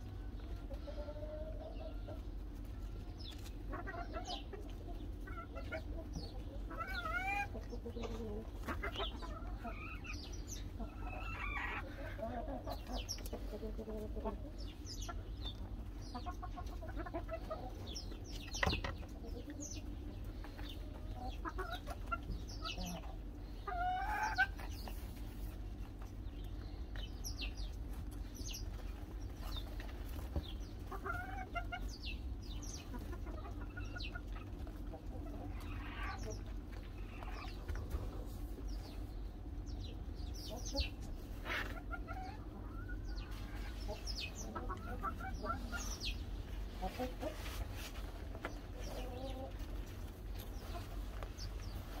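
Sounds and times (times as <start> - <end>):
hens clucking: 0.0 - 52.0
steady low hum: 0.0 - 52.0.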